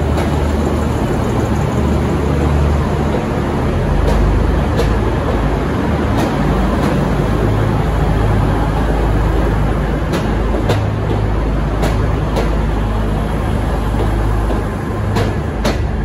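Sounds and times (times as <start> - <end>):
diesel engines droning: 0.0 - 16.0.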